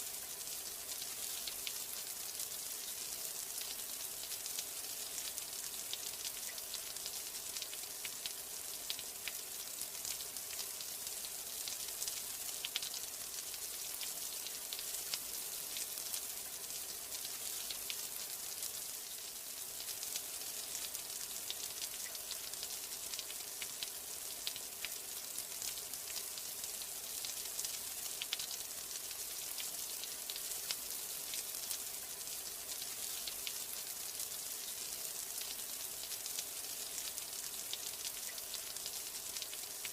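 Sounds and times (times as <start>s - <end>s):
steady rain falling: 0.0s - 39.9s
raindrops ticking close by: 0.3s - 39.9s.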